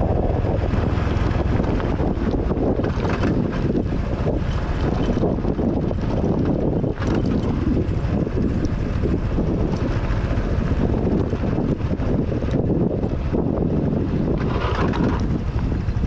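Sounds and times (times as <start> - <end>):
motorcycle engine running: 0.0 - 16.0
tyres on loose dirt and stones: 0.0 - 16.0
wind buffeting microphone: 0.0 - 16.0.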